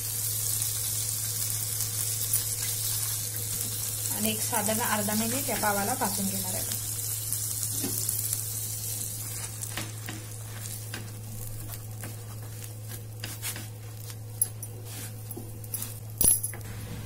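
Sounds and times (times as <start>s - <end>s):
butter sizzling in a hot pan: 0.0s - 15.2s.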